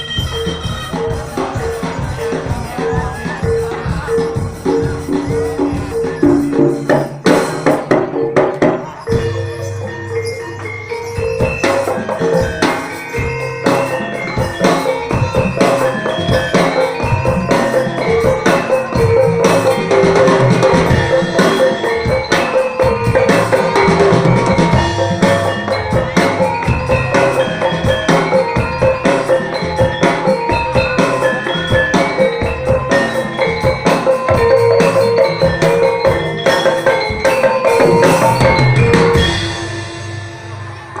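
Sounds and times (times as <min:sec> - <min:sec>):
gamelan music with drums: 0:00.0 - 0:41.0.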